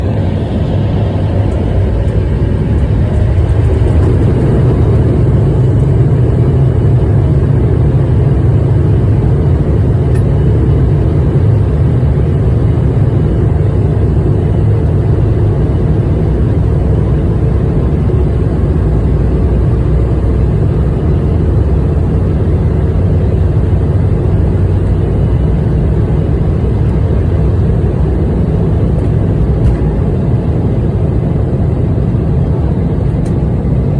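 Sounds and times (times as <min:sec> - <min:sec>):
jet engines at takeoff power: 0:00.0 - 0:33.9.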